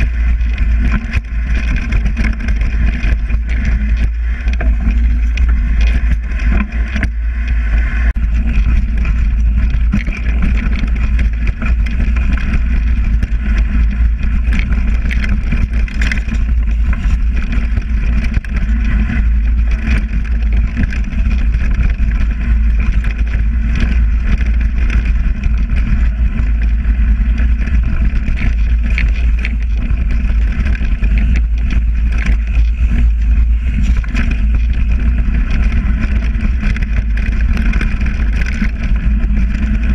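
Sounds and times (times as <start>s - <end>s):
bike clicking and rattling: 0.0s - 39.9s
bike tyres on dirt trail: 0.0s - 39.9s
wind on microphone: 0.0s - 39.9s.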